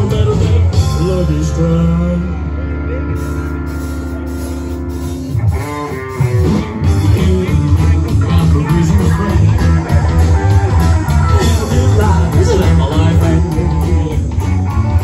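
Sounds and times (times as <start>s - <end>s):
electric guitar and bass music: 0.0s - 15.0s.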